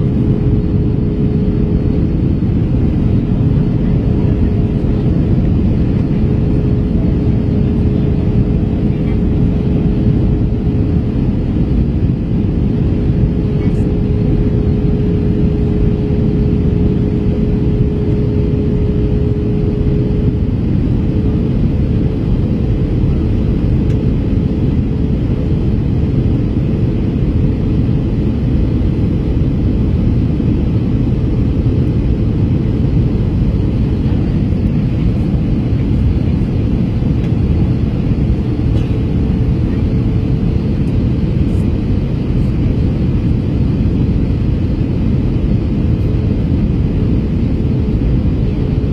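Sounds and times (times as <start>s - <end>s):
faint steady hum: 0.0s - 44.8s
aircraft cabin engine rumble: 0.0s - 48.9s.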